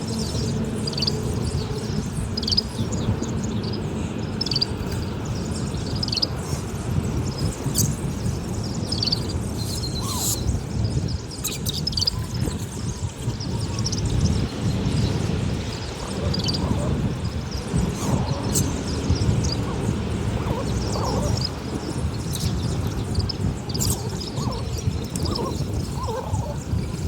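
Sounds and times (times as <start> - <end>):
bird chirping: 0.0 - 27.0.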